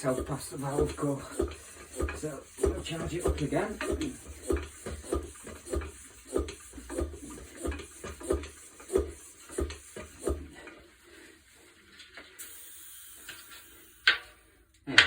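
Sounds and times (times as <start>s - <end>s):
hand pump strokes: 0.0s - 12.5s.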